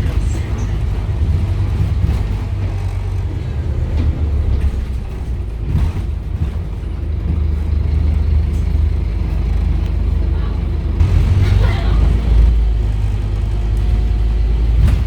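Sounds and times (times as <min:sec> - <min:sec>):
bus diesel engine drone: 0:00.0 - 0:15.0
road noise: 0:00.0 - 0:15.0.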